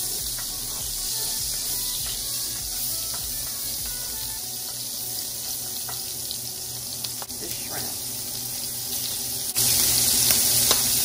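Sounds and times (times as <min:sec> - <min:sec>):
butter and oil sizzling: 0:00.0 - 0:11.0.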